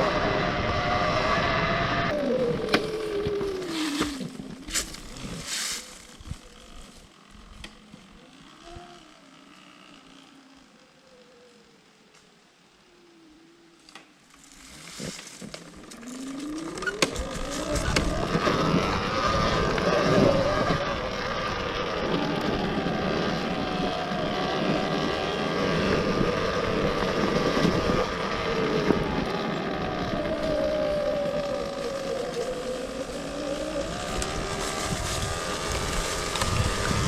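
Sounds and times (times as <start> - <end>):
electric motorcycle motor whine: 0.0 - 37.0
tyre and trail noise: 0.0 - 37.0.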